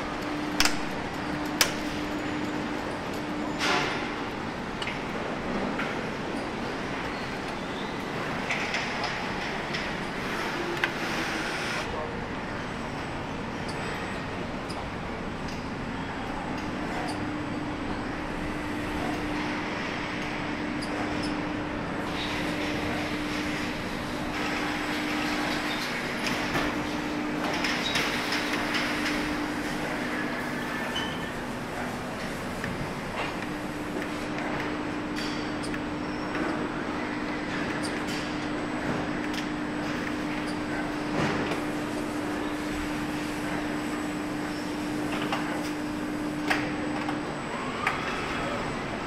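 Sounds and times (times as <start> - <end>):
factory hall noise: 0.0 - 49.0
mechanical hum: 0.0 - 49.0.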